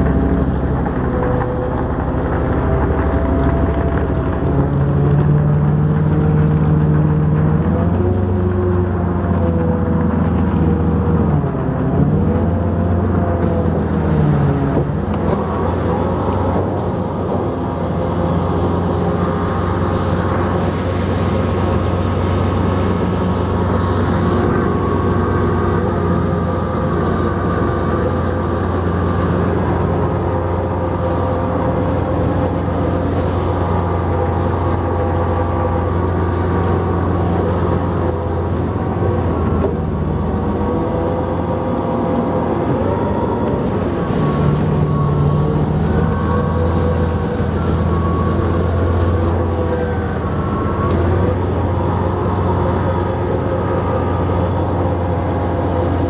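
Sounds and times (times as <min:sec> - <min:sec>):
engine humming with droning pitch: 0:00.0 - 0:56.0.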